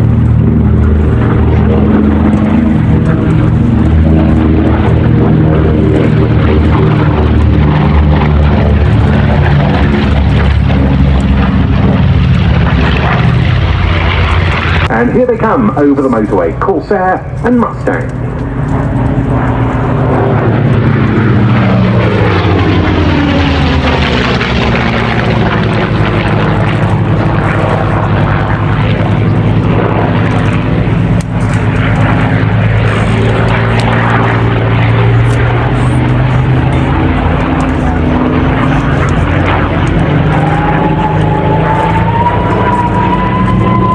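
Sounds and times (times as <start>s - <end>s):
piston aircraft engines droning: 0.0s - 43.9s
propeller planes flying past: 0.0s - 43.9s.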